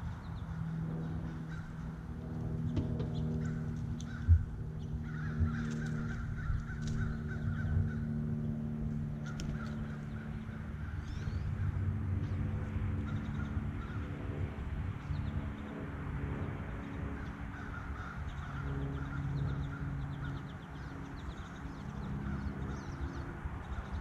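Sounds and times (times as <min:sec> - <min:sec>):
harsh crow-like bird calls: 0:00.0 - 0:14.6, 0:16.9 - 0:24.0
steady low hum: 0:00.0 - 0:24.0.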